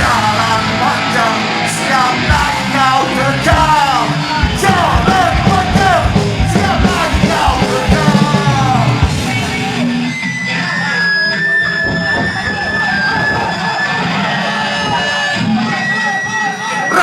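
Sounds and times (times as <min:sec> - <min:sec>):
punk band playing: 0:00.0 - 0:17.0
shouted chanted vocals: 0:00.0 - 0:17.0.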